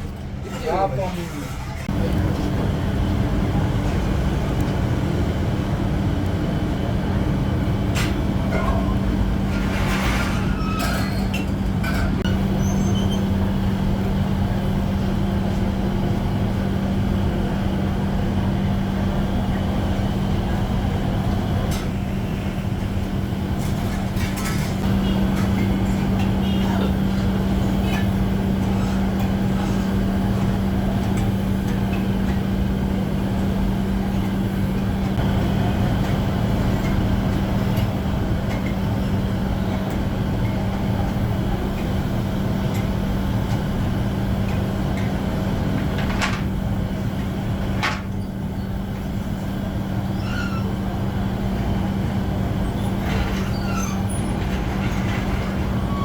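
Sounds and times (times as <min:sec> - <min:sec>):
machine humming and rattling: 0:00.0 - 0:56.0.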